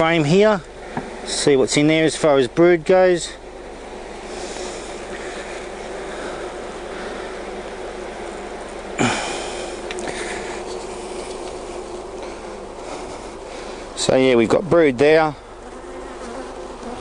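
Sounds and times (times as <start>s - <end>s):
honey bees humming: 0.0s - 17.0s.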